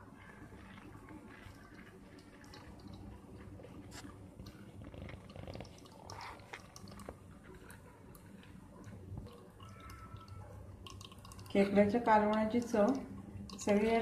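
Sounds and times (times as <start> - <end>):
liquid trickling through a strainer: 0.0 - 14.0.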